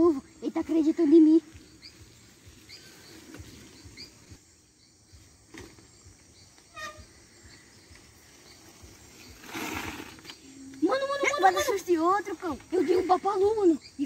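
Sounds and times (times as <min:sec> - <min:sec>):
faint rural outdoor ambience: 0:00.0 - 0:14.0.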